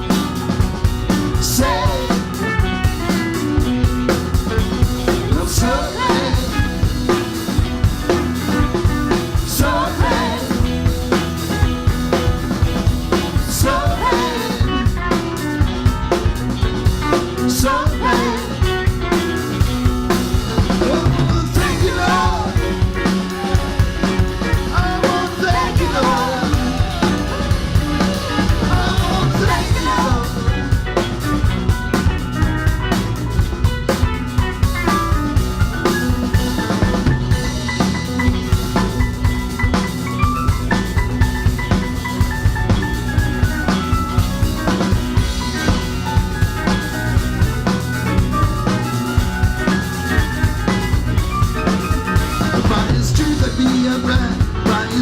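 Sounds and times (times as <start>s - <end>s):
live band playing rock: 0.0s - 55.0s.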